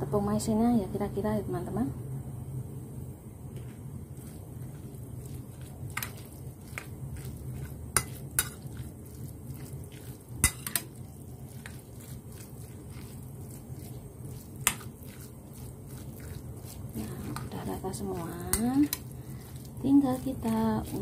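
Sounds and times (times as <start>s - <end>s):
steady low hum: 0.0s - 21.0s
spoon scraping in bowl: 3.6s - 21.0s.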